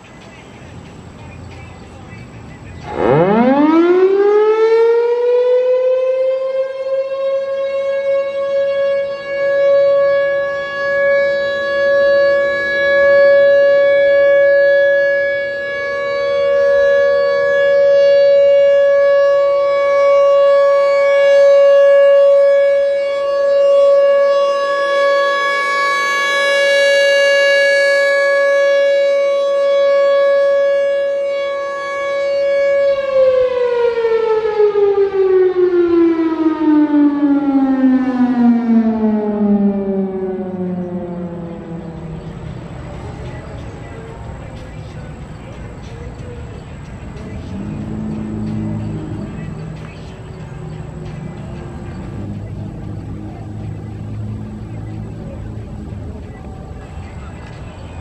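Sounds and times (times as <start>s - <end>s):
siren alert tone: 2.3s - 58.0s
siren winding down: 2.7s - 44.9s, 45.8s - 58.0s.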